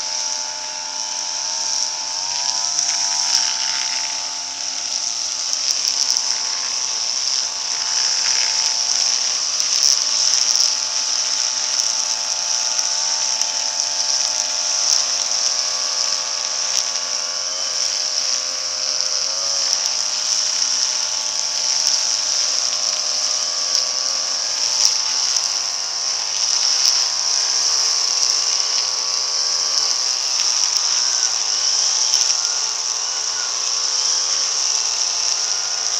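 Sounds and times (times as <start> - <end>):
brush cutter engine buzzing: 0.0 - 35.9.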